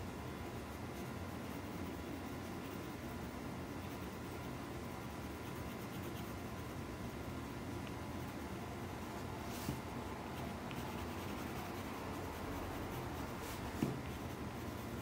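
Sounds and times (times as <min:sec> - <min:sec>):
pencil scratching on paper: 0:00.3 - 0:07.3, 0:09.4 - 0:15.0.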